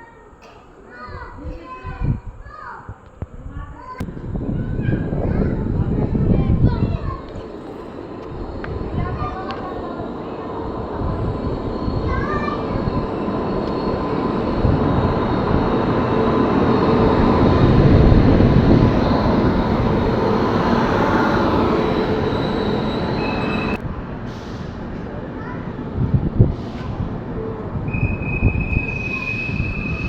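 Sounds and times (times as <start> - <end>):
train rumble and rail noise: 0.0 - 30.0.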